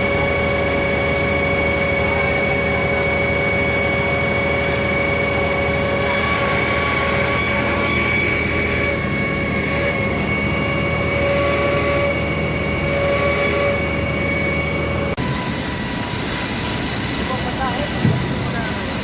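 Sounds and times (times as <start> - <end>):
concrete pump drone: 0.0 - 19.0
high steady whine: 0.0 - 19.0.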